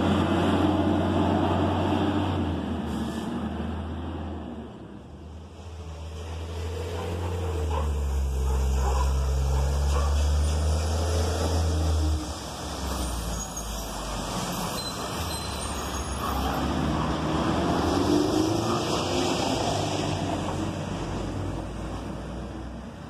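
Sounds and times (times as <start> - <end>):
road noise: 0.0 - 23.0.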